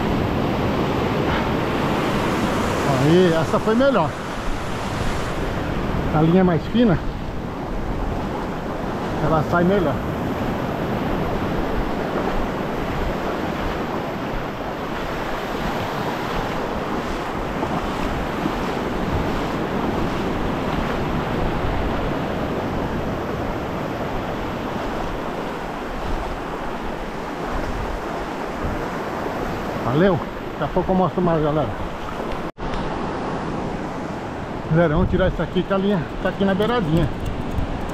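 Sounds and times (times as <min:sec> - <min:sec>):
wind rumbling on microphone: 0:00.0 - 0:30.6, 0:31.7 - 0:37.9
ocean surf washing: 0:00.0 - 0:37.9.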